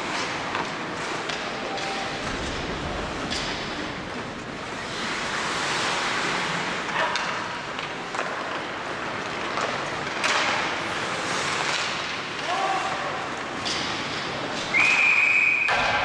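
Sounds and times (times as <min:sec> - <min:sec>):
skate blades scraping ice: 0:00.0 - 0:02.6, 0:04.5 - 0:15.1
hockey sticks hitting puck: 0:00.0 - 0:03.8, 0:04.8 - 0:16.0.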